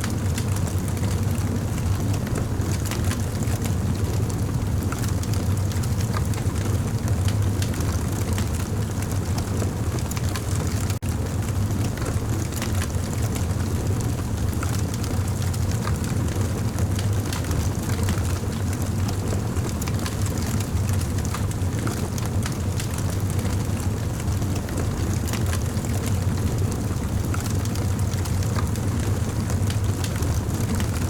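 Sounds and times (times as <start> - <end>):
burning wood crackling and popping: 0.0 - 31.0
campfire flames roaring: 0.0 - 31.0.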